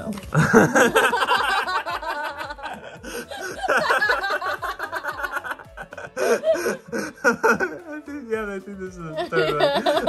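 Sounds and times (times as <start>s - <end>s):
person laughing: 0.3s - 8.0s, 9.2s - 10.0s.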